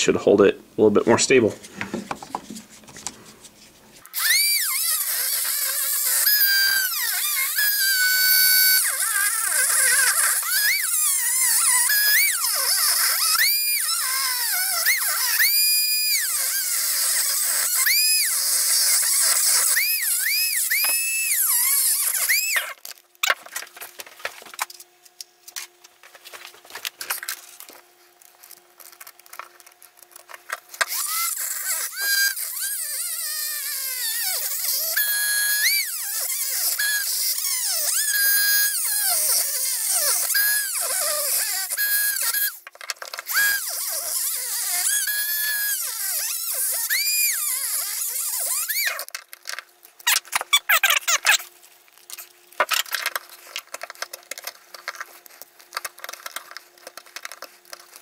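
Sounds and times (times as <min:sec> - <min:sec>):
rotary tool whining through plastic: 0:01.6 - 0:58.0.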